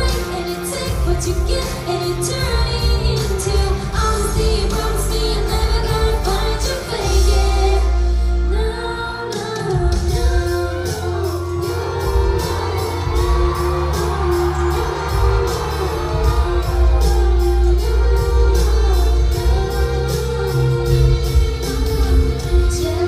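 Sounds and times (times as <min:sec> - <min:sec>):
live pop-rock band with heavy bass: 0:00.0 - 0:23.0
woman singing into a microphone: 0:00.0 - 0:23.0.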